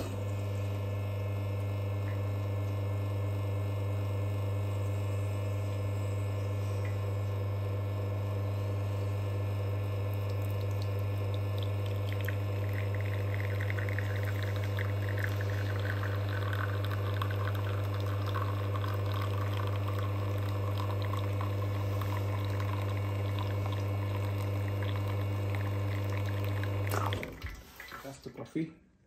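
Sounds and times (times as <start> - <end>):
espresso machine pump humming: 0.0 - 28.1
espresso streaming into cup: 0.0 - 28.1.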